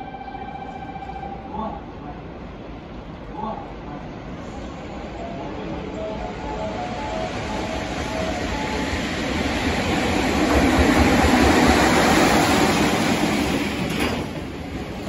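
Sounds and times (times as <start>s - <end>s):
electric locomotive passing: 0.0s - 15.0s.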